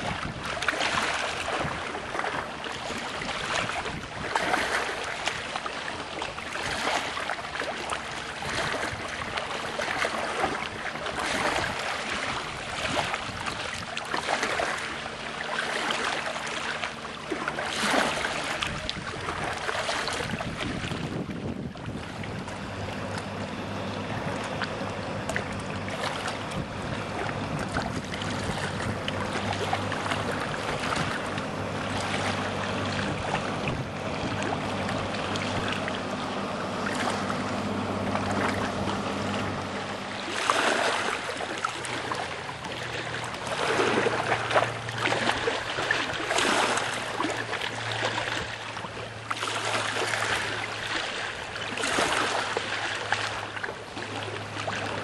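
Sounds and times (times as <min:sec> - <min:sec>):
steady low hum: 0:00.0 - 0:55.0
water splashing against boat hull: 0:00.0 - 0:55.0.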